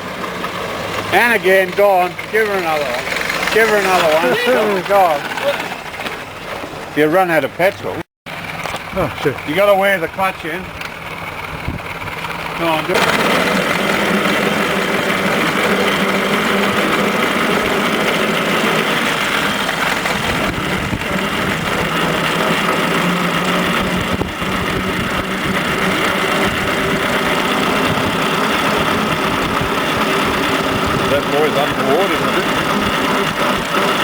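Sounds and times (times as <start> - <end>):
car engine running: 0.0 - 34.0
drivetrain mechanical noise: 0.0 - 34.0.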